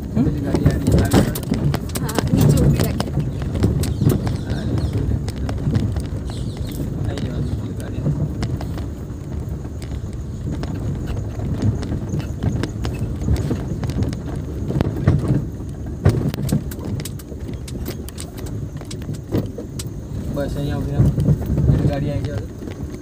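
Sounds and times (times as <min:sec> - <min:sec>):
car driving over gravel track: 0:00.0 - 0:23.0
knocks and rattles: 0:00.0 - 0:23.0.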